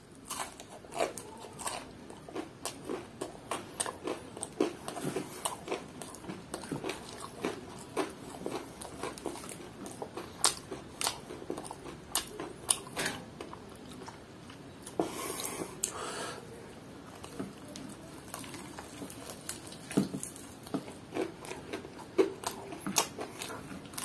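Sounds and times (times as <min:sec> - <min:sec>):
chewing crispy fried chicken: 0:00.0 - 0:16.0, 0:16.8 - 0:24.0.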